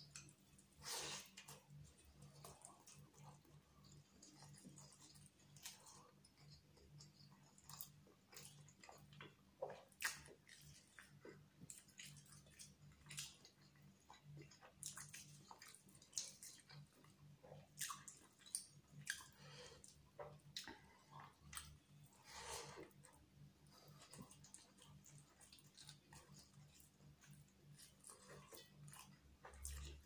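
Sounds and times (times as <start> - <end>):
wet chewing and lip smacks: 0.0 - 22.1, 22.8 - 30.0.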